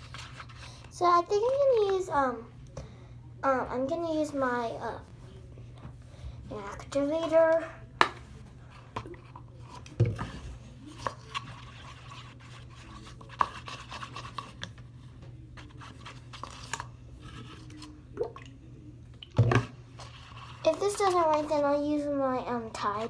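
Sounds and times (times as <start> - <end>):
stirring slime: 0.0 - 2.4, 6.5 - 23.0.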